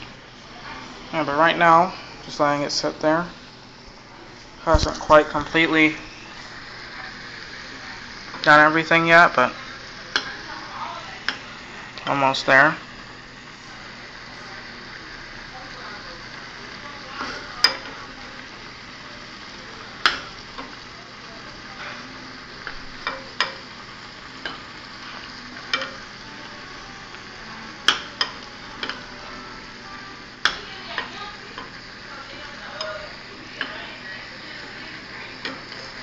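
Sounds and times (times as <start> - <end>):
boiling hiss: 0.0 - 36.0.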